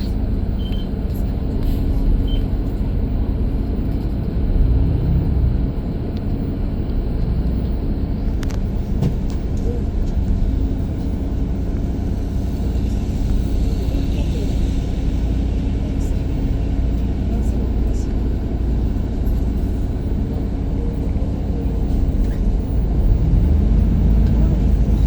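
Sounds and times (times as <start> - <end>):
faint engine hum: 0.0 - 25.0
vehicle engines and road noise: 0.0 - 25.0.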